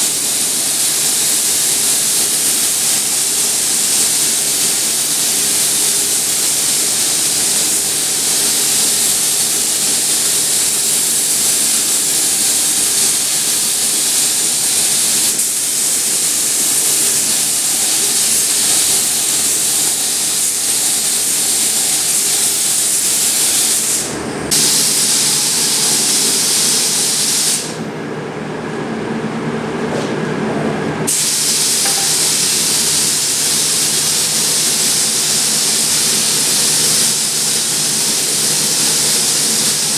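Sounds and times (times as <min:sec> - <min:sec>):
spray gun hissing: 0:00.0 - 0:27.8, 0:31.1 - 0:39.9.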